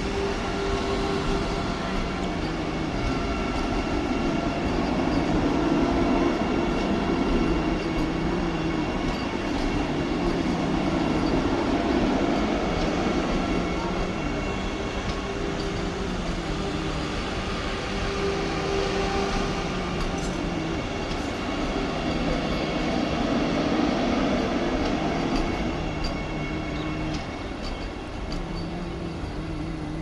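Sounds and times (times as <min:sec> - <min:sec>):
electric train running rumble: 0:00.0 - 0:30.0.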